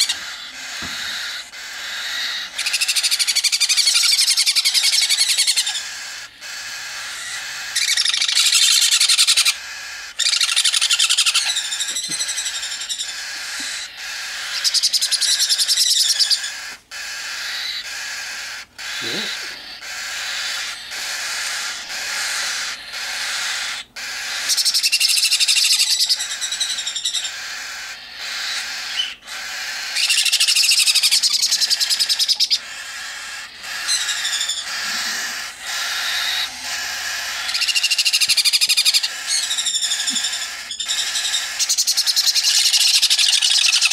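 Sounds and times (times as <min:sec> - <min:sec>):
chicks raspy begging calls: 0:00.0 - 0:43.9.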